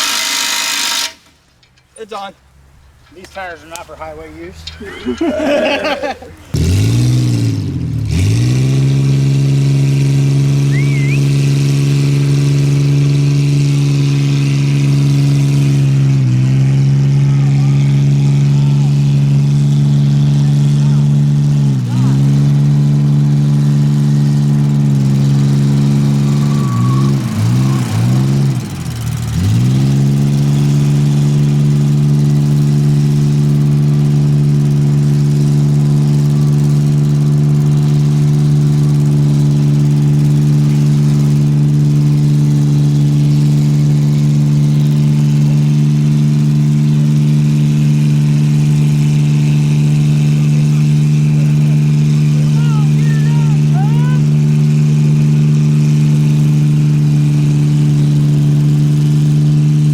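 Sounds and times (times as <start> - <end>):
engine running at high revs: 5.1 - 59.9.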